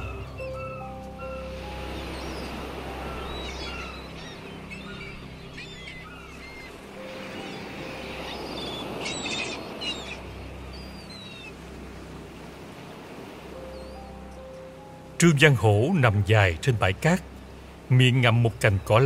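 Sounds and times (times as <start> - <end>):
sea surf washing: 0.0 - 19.0
seagulls calling: 0.0 - 19.0
sustained music notes: 0.0 - 19.0.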